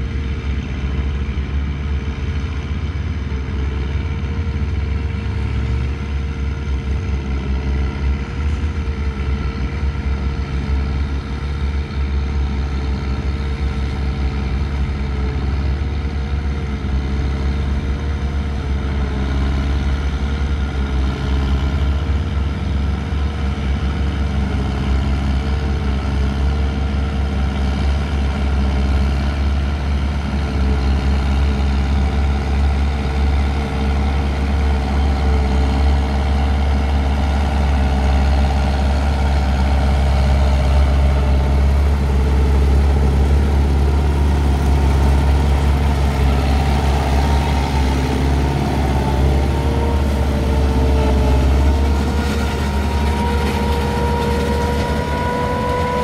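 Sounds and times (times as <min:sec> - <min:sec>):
tractor engines running under load: 0:00.0 - 0:56.0.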